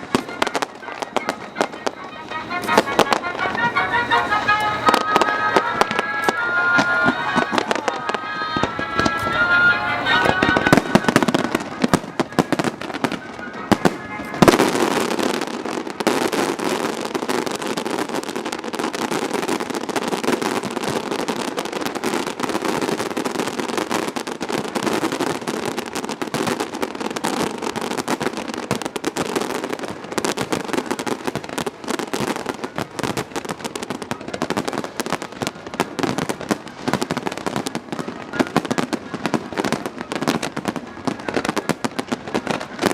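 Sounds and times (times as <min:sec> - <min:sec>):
fireworks crackling: 0:00.0 - 0:42.9
loud firework bang: 0:00.0 - 0:42.9.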